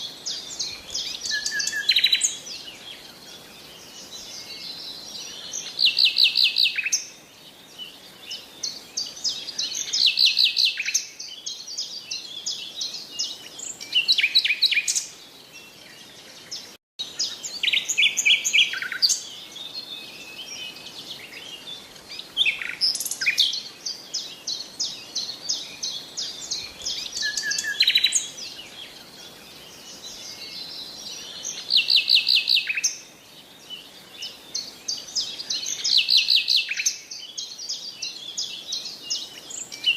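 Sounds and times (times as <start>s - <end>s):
bird trills and chirps: 0.0s - 39.9s.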